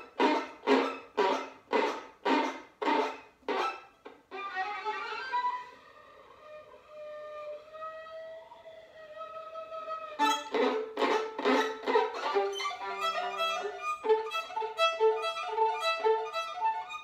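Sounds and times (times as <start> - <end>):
solo violin playing: 0.0 - 17.0.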